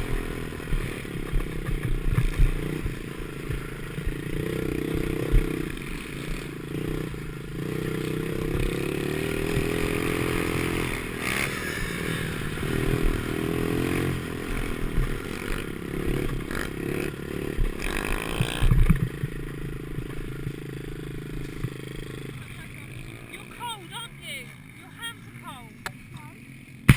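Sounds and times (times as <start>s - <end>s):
pit bike engine revving: 0.0s - 26.9s.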